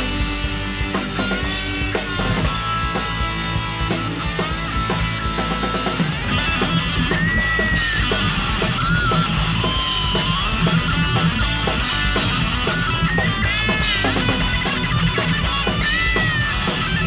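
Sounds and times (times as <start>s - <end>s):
bass: 0.0s - 17.0s
steady drum beat: 0.0s - 17.0s
lead guitar bending notes: 0.6s - 17.0s.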